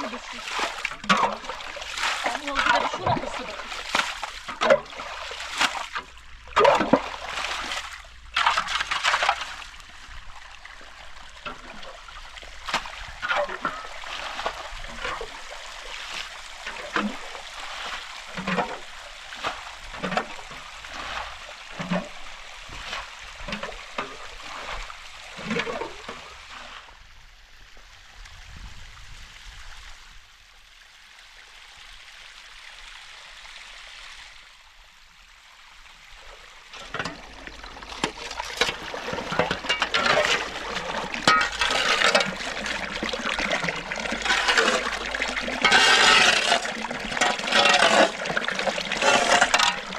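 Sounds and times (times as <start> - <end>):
water splashing: 0.0 - 26.9, 36.2 - 49.9
rush of gushing water: 0.0 - 27.2, 28.2 - 49.9.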